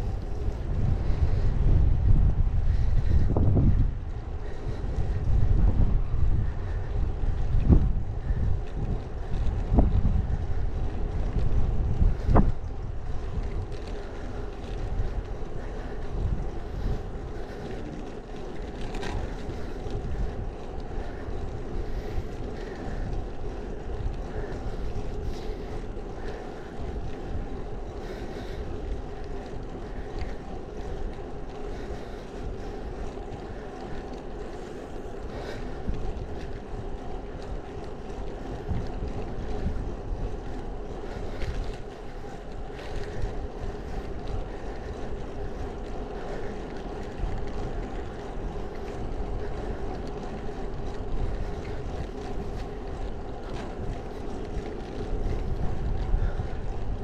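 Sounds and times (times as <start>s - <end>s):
bicycle tyres rolling on asphalt: 0.0s - 57.0s
wind buffeting microphone: 0.0s - 57.0s.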